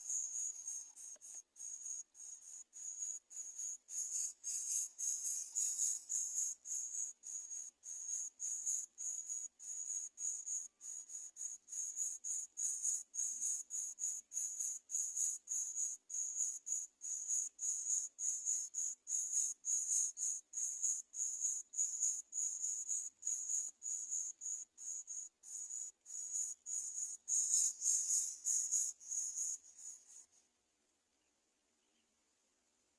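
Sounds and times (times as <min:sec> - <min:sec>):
insect chirping: 0:00.0 - 0:30.4.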